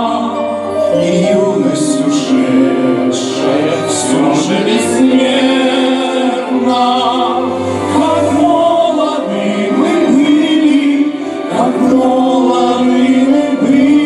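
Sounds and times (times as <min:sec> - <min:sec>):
instrumental accompaniment: 0:00.0 - 0:14.0
male trio singing in harmony: 0:00.0 - 0:14.0.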